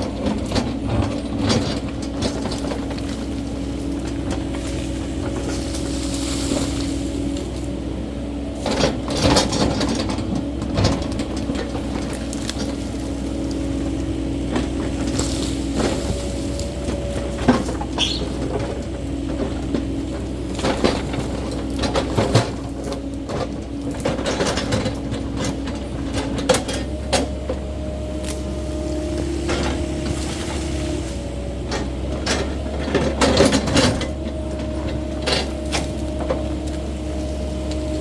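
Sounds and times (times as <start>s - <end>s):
excavator engine running: 0.0s - 38.0s
knocks and clanks clearing brush: 0.0s - 38.0s.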